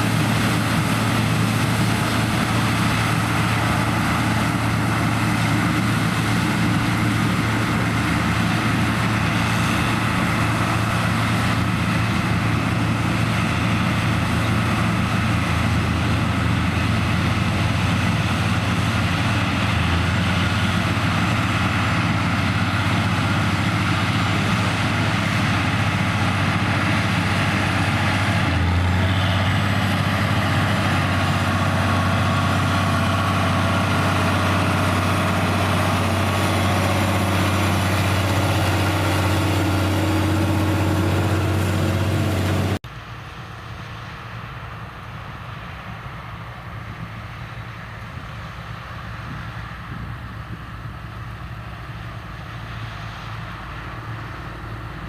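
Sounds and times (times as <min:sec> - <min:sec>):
diesel machinery engine hum: 0:00.0 - 0:55.0.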